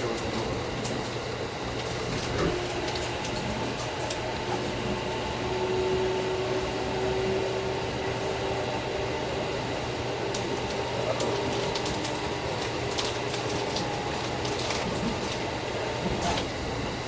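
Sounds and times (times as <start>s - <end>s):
steady humming tone: 0.0s - 17.0s
train car rumble: 0.0s - 17.0s.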